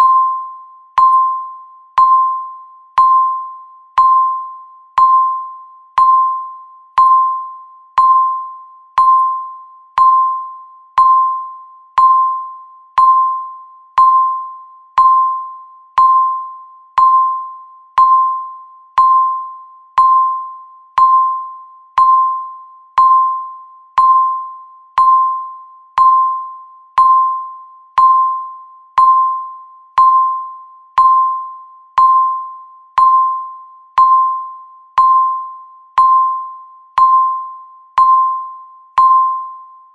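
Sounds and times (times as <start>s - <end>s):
timer electronic beeps: 0.0s - 39.9s.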